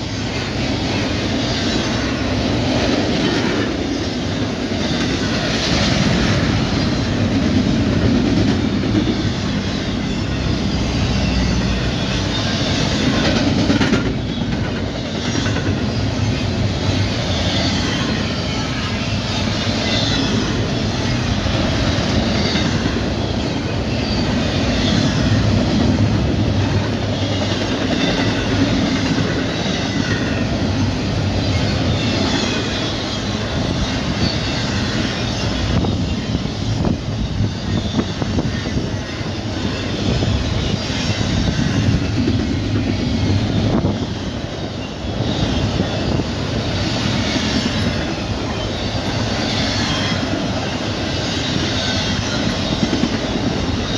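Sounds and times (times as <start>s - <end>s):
train cars rumbling and rattling: 0.0s - 53.9s.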